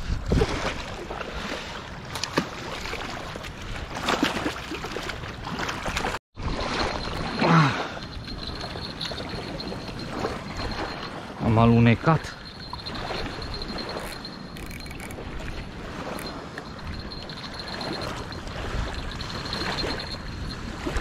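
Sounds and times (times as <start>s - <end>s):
small waves lapping: 0.0s - 21.0s
water splashing: 0.4s - 21.0s.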